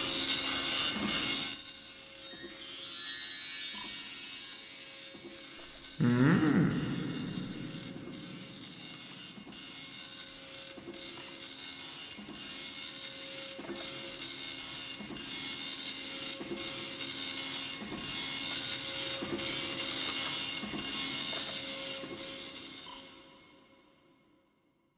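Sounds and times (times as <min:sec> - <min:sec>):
rhythmic hissing mechanical noise: 0:00.0 - 0:06.0, 0:06.6 - 0:23.0.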